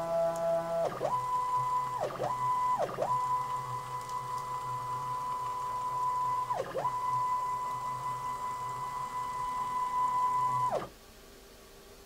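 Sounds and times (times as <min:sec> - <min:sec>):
stepper motor whine: 0:00.0 - 0:10.9.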